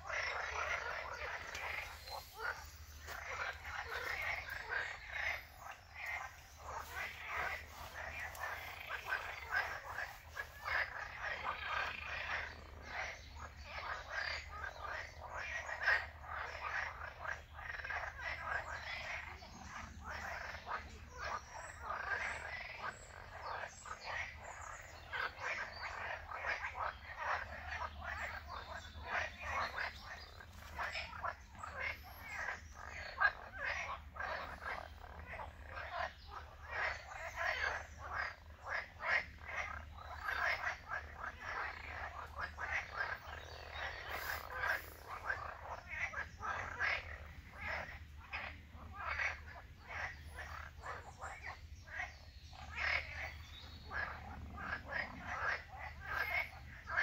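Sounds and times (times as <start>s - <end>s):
chorus of frogs calling: 0.0s - 57.0s.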